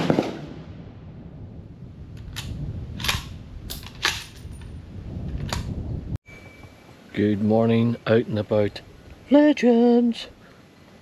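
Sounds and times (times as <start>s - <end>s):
steady low rumble: 0.2s - 9.3s.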